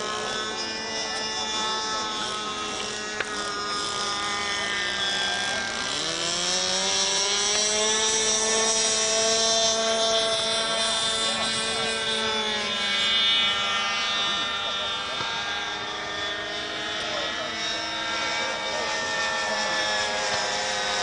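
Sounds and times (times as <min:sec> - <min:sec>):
model airplane engine drone: 0:00.0 - 0:21.0.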